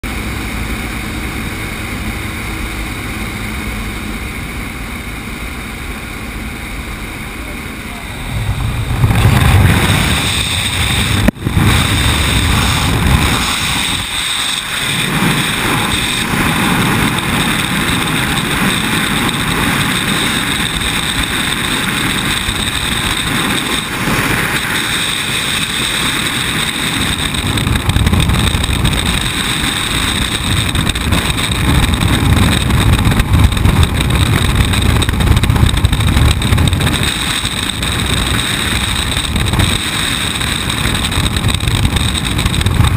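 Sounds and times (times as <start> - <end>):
loud wind roar on microphone: 0.0 - 42.9.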